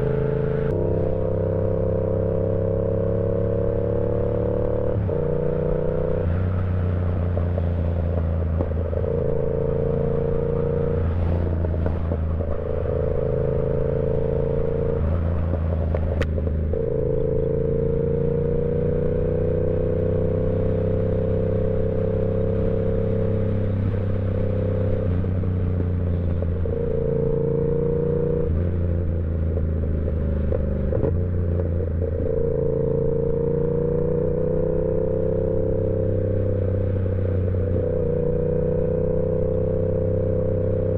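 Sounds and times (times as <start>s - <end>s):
motorcycle engine under way: 0.0s - 40.9s.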